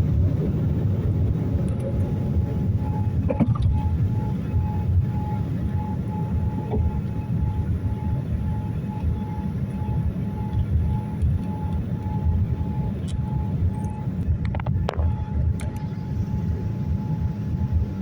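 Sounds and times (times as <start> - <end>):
airliner cabin rumble: 0.0 - 18.0
faint beeping tone: 2.1 - 14.2, 15.0 - 18.0.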